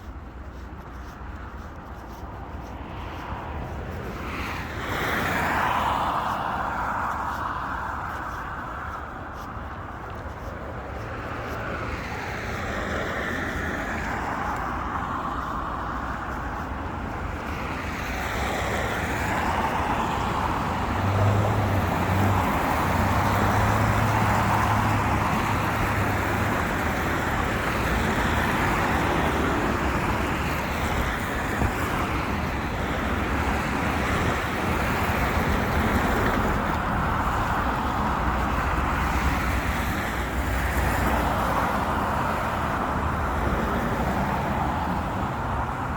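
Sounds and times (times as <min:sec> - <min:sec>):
cars passing: 0:00.0 - 0:45.9.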